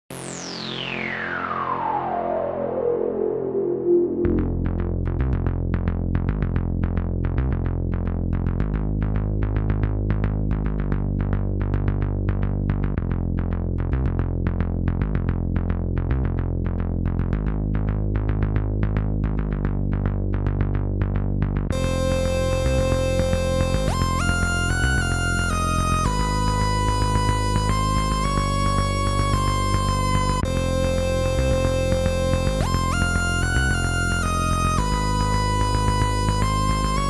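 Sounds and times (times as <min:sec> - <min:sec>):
held synth bass: 0:00.1 - 0:37.0
plucked synthesizer notes: 0:00.1 - 0:37.0.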